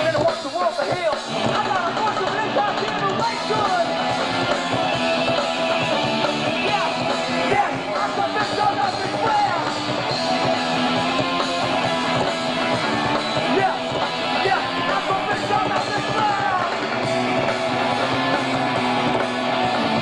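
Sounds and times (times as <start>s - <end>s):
person singing: 0.0s - 9.8s, 10.5s - 17.0s
punk band playing live: 0.0s - 20.0s.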